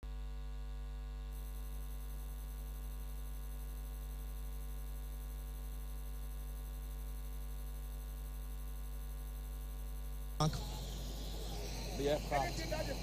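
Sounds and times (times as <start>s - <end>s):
electrical mains hum: 0.1s - 13.0s.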